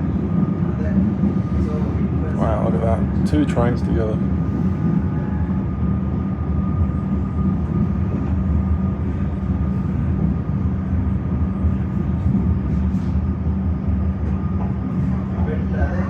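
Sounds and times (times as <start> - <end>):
train rumble inside carriage: 0.0 - 16.0.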